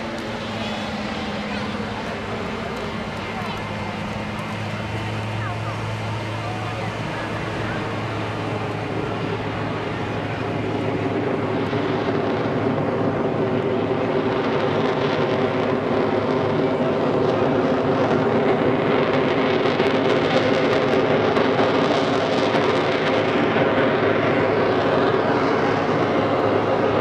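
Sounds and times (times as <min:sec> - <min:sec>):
airplane engines droning: 0:00.0 - 0:27.0.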